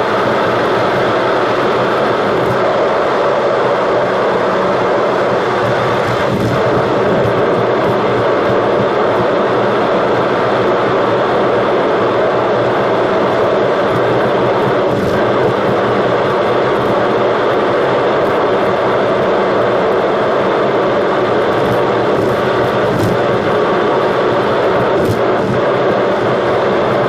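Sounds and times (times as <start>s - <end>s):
car interior road noise: 0.0s - 27.0s.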